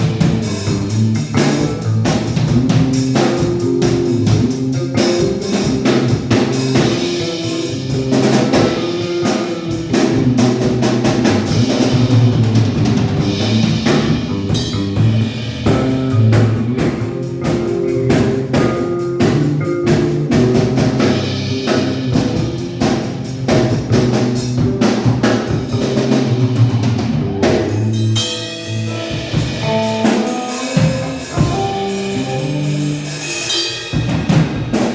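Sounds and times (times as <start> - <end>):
band playing music: 0.0 - 34.9
drum kit: 0.0 - 34.9.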